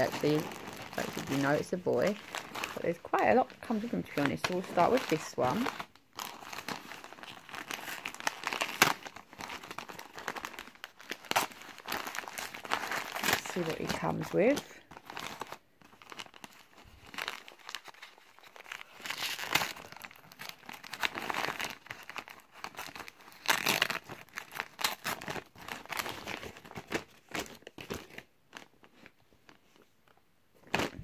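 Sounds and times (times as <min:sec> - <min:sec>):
tissue paper crinkling: 0:00.0 - 0:31.0.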